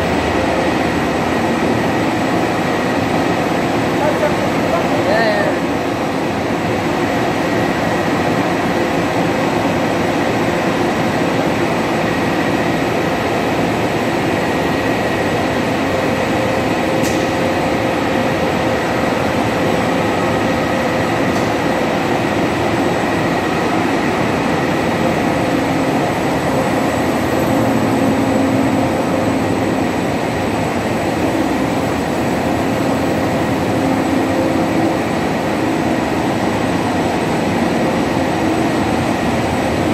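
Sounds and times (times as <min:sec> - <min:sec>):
faint steady whines: 0:00.0 - 0:39.9
printing press running: 0:00.0 - 0:39.9.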